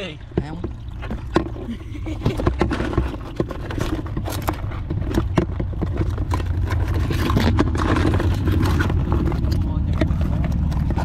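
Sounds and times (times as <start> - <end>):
crab claws scratching plastic: 1.0 - 11.0.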